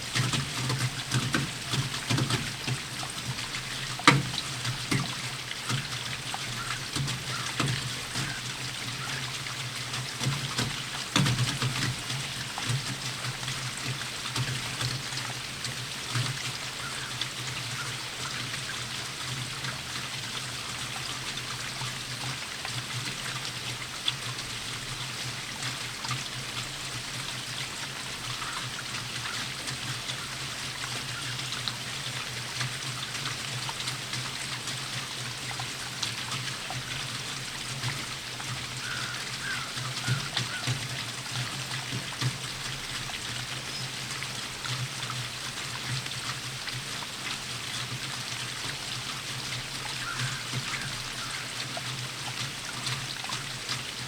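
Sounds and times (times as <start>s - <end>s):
steady rainfall: 0.0s - 54.0s
water trickling: 0.0s - 54.0s.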